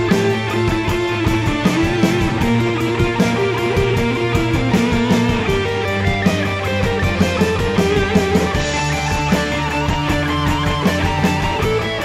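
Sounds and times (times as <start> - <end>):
bass: 0.0 - 12.0
electric guitar melody: 0.0 - 12.0
keyboards: 0.0 - 12.0
steady drum beat: 0.0 - 12.0.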